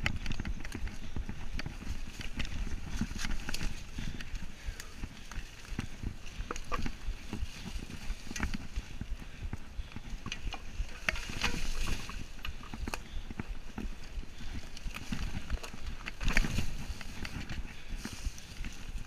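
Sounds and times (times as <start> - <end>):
bike rattling over bumps: 0.0 - 19.0
bike tyres rolling over leaves: 0.0 - 19.0.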